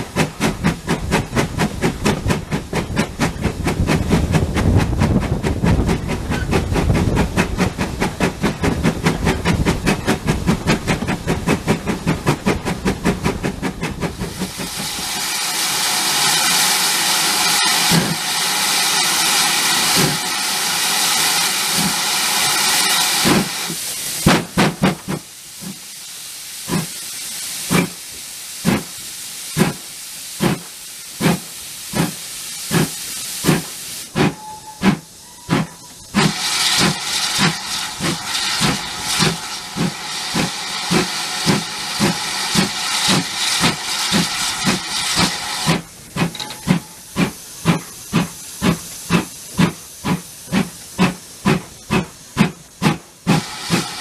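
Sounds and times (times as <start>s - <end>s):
loud steam hiss: 0.0s - 54.0s
steam locomotive exhaust beats: 0.0s - 54.0s.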